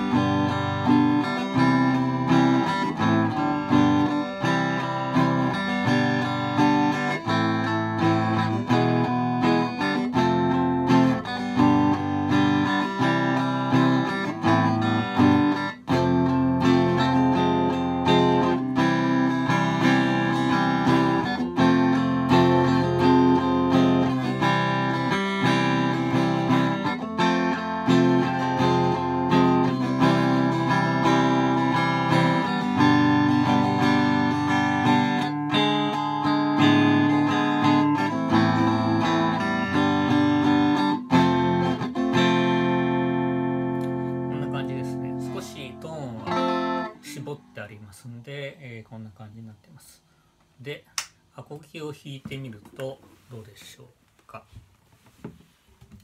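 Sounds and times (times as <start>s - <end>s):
clean electric guitar chords: 0.0s - 47.7s.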